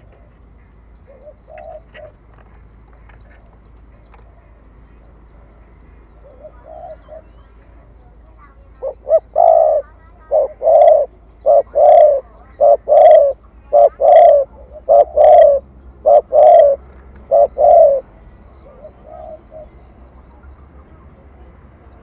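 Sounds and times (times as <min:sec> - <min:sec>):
dove cooing: 0:01.0 - 0:22.0.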